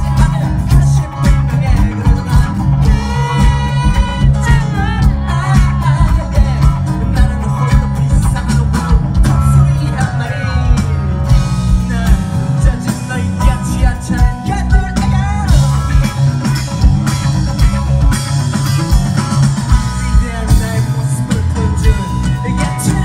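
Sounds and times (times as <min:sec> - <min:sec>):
man singing: 0:00.0 - 0:16.9, 0:18.9 - 0:23.0
bass guitar: 0:00.0 - 0:23.0
drums: 0:00.0 - 0:23.0.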